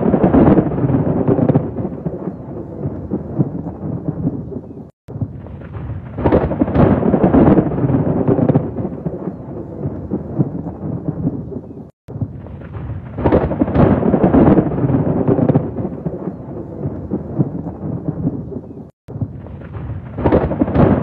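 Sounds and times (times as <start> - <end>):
heavy rain: 0.0 - 21.0
thunder rumbling: 0.0 - 21.0.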